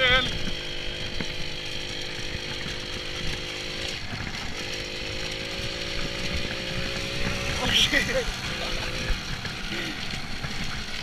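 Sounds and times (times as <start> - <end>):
moped engine running: 0.0 - 11.0.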